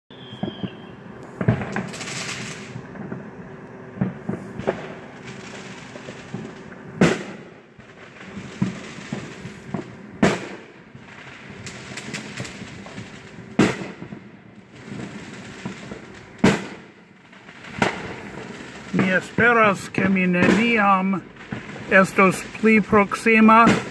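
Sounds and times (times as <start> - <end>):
firework pops and crackling: 0.1 - 23.9
loud booming fireworks: 0.1 - 23.9.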